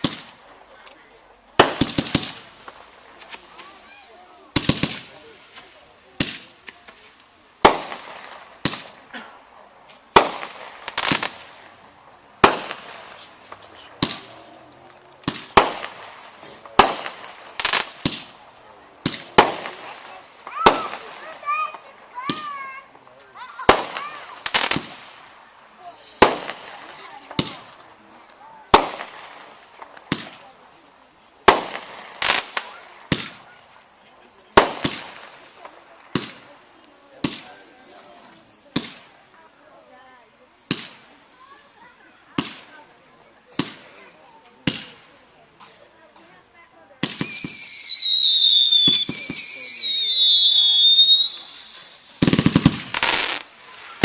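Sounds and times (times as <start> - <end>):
firework shots banging: 0.0 - 3.9, 4.5 - 22.9, 23.5 - 30.7, 31.4 - 33.9, 34.5 - 37.8, 38.6 - 39.2, 40.7 - 41.2, 42.3 - 42.8, 43.5 - 45.8, 46.9 - 54.0.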